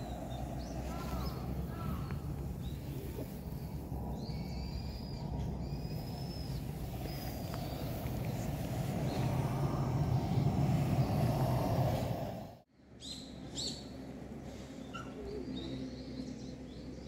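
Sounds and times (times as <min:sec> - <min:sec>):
low rumbling background: 0:00.0 - 0:17.0.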